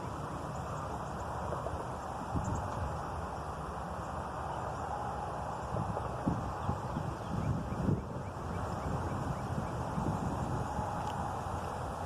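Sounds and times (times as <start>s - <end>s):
wind buffeting microphone: 0.0s - 3.3s, 4.6s - 12.0s.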